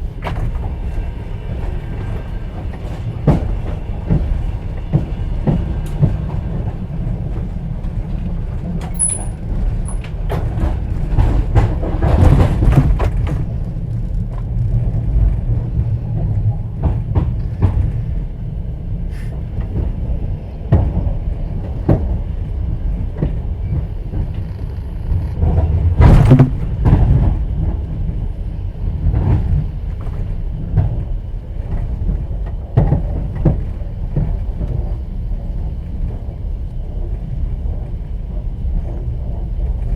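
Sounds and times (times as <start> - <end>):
train rumble inside carriage: 0.0 - 39.9.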